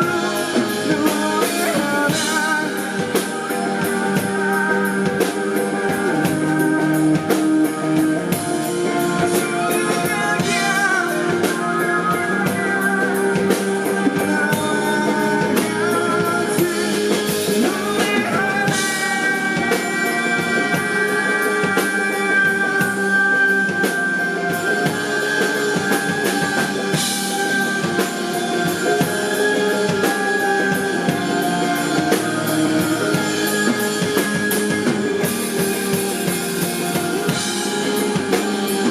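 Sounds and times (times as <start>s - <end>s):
bass guitar: 0.0s - 38.9s
drum kit: 0.0s - 38.9s
electric guitars: 0.0s - 38.9s
person singing: 0.0s - 38.9s.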